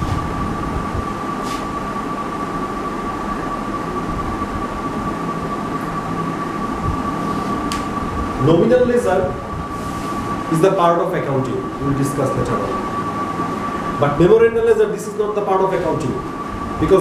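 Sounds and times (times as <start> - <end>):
background hum and hiss: 0.0 - 17.0
high-pitched whine: 0.0 - 17.0.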